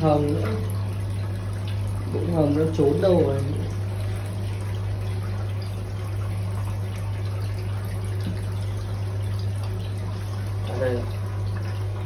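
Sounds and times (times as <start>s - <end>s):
water pouring and trickling: 0.0s - 12.0s.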